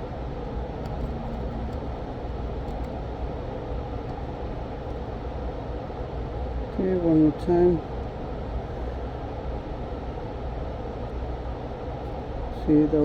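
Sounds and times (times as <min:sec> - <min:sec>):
fan-like running noise: 0:00.0 - 0:13.0.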